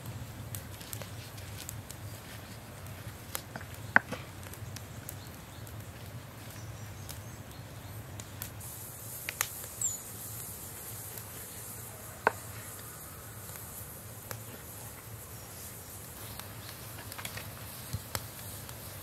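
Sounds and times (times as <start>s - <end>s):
faint high hiss: 0.0s - 19.0s.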